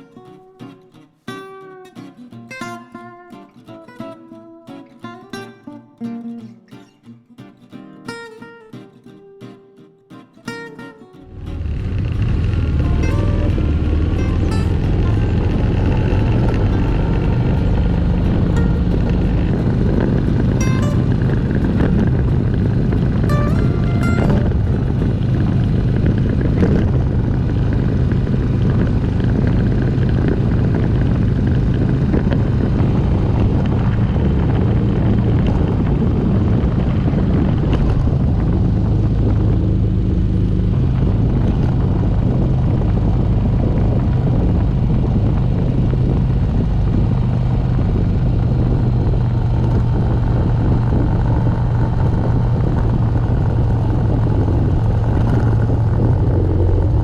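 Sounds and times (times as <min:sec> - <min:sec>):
motorcycle engine running: 0:11.3 - 0:57.0
wind rush: 0:11.3 - 0:57.0.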